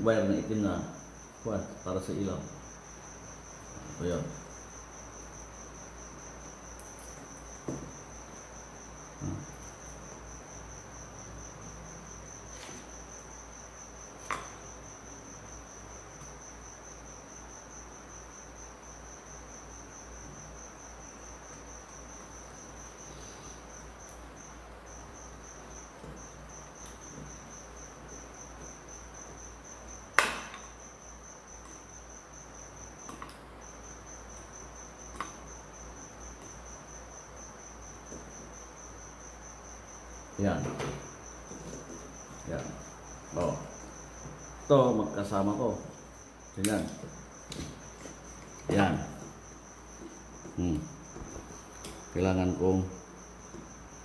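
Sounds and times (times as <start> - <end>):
high-pitched insect trill: 0.0 - 54.0.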